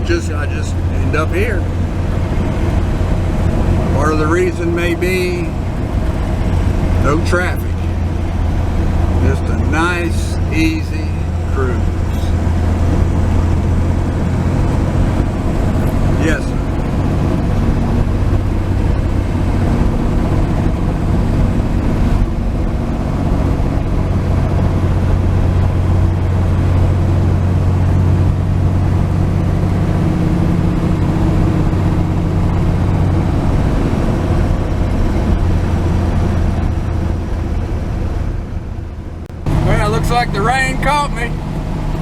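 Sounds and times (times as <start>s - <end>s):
pickup truck engine running: 0.0s - 42.0s
road noise: 0.0s - 42.0s.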